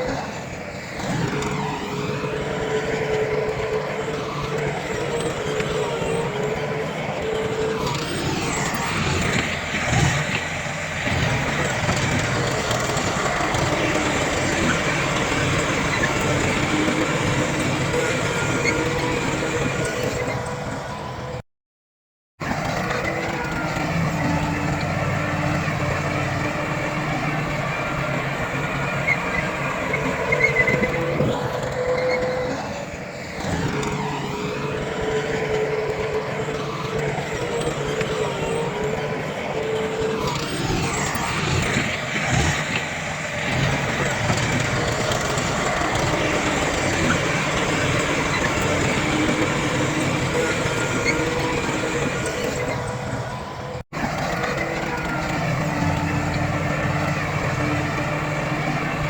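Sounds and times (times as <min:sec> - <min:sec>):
bulldozer engine running: 0:00.0 - 0:21.4, 0:22.4 - 0:59.0
dump truck engines running: 0:00.0 - 0:21.4, 0:22.4 - 0:59.0.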